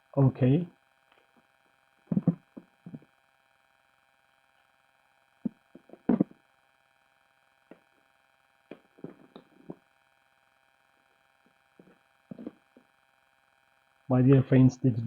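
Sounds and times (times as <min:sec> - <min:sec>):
faint steady background tones: 0:00.0 - 0:15.0.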